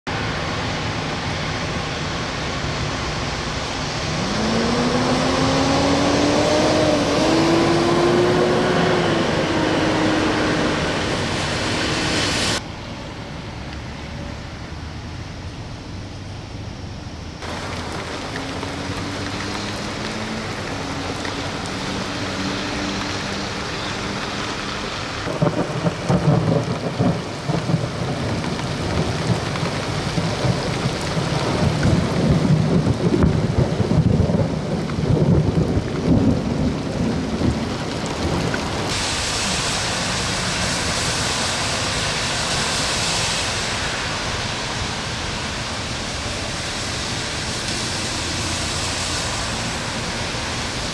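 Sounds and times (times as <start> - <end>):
heavy rain pouring: 0.1 - 16.1, 17.4 - 50.9.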